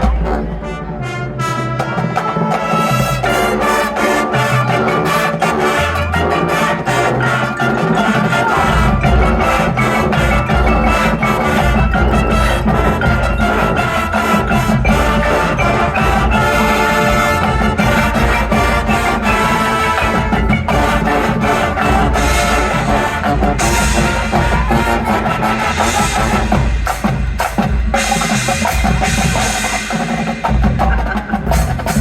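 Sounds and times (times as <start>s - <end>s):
drum line: 0.0s - 32.0s
marching band brass: 0.0s - 32.0s.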